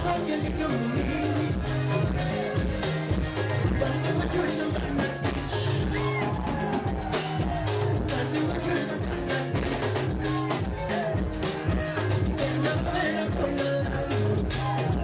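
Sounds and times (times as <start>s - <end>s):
man's voice on a microphone: 0.0s - 2.6s, 3.6s - 6.2s, 7.9s - 15.0s
band music over a pa: 0.0s - 15.0s.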